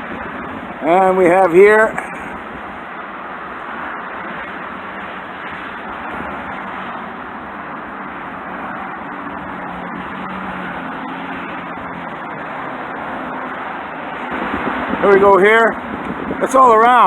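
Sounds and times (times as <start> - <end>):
outdoor background rush: 0.0 - 17.0.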